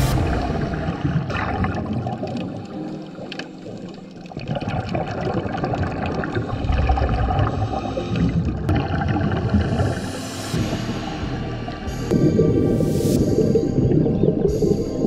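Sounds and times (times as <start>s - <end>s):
breath bubbles gurgling: 0.0s - 15.0s
underwater rumble: 0.0s - 15.0s.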